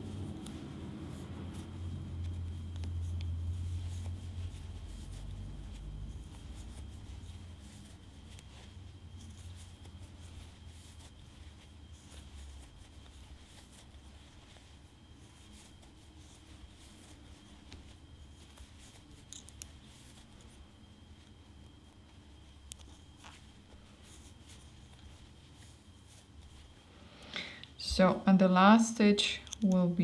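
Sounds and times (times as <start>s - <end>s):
yarn scratching and rustling: 0.0s - 27.0s
faint high whine: 0.0s - 30.0s
steady low hum: 0.0s - 30.0s.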